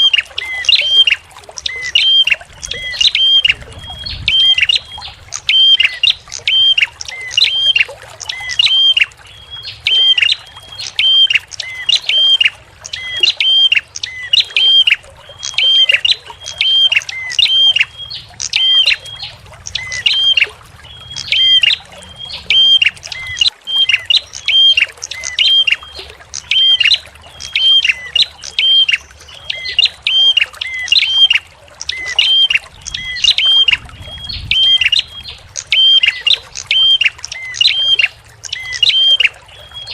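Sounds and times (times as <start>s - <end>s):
faint gurgling water: 0.0s - 39.9s
songbird piercing call: 0.0s - 39.9s.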